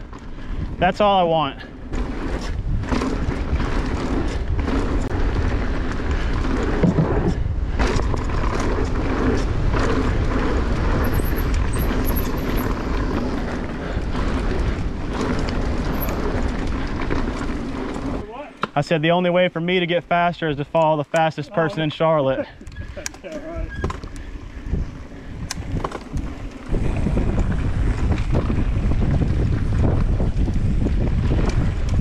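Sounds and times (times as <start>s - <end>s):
wind rushing over microphone: 0.0s - 18.3s, 22.5s - 32.0s
tyres rolling on dirt: 0.0s - 32.0s
bike knocks and rattles: 1.8s - 18.8s, 22.6s - 32.0s.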